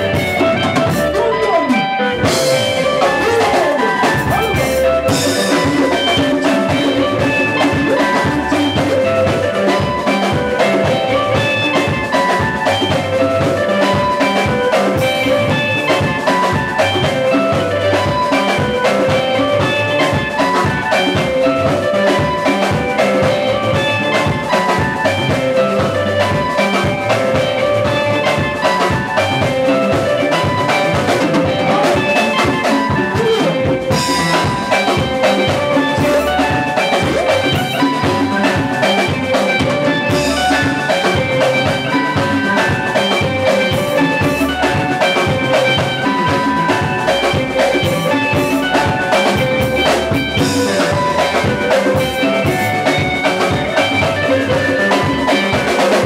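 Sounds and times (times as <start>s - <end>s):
drum kit and congas: 0.0s - 56.0s
electric guitar lines: 0.0s - 56.0s
live band playing: 0.0s - 56.0s.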